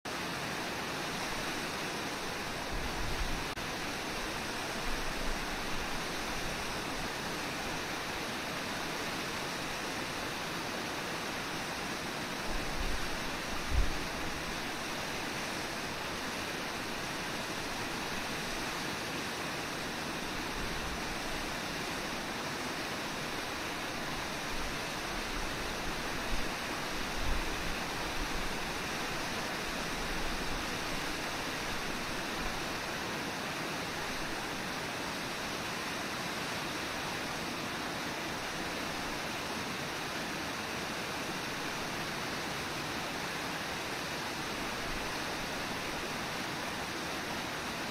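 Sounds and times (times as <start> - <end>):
waterfall rushing: 0.1 - 47.9.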